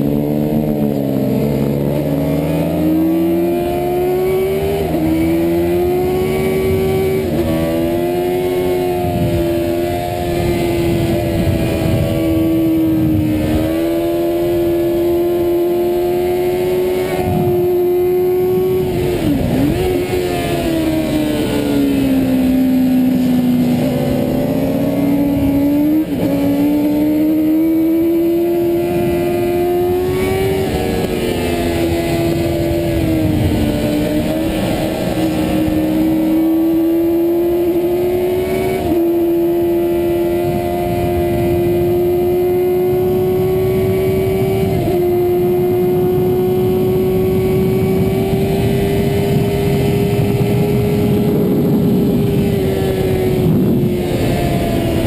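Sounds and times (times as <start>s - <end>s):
motorcycle engine at high revs: 0.0s - 55.0s
wind rushing over microphone: 0.0s - 55.0s.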